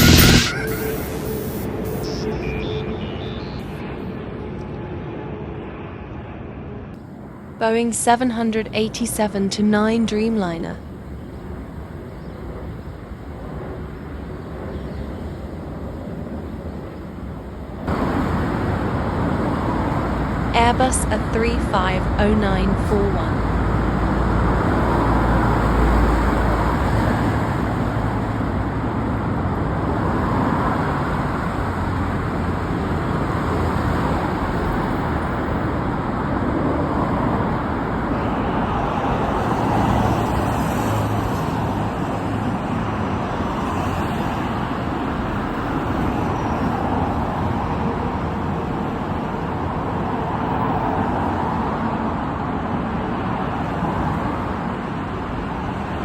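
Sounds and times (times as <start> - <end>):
road traffic: 0.0 - 4.4, 10.1 - 56.0.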